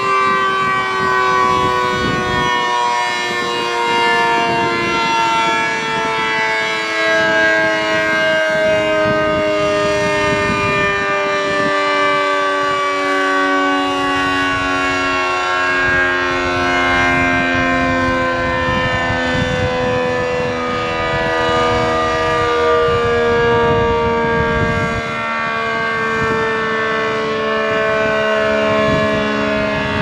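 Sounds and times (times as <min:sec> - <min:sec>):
warning siren sounding chord: 0:00.0 - 0:30.0.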